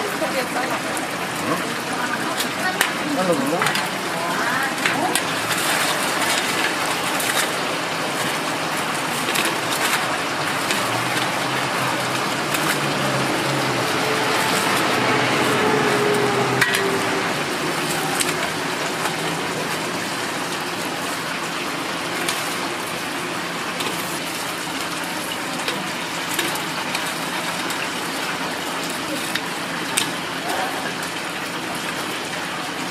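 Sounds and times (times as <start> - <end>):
rushing kitchen noise: 0.0 - 32.9.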